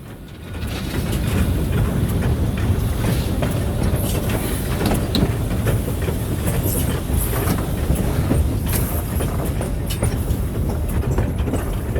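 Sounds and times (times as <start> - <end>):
steam locomotive rumbling: 0.0 - 11.9.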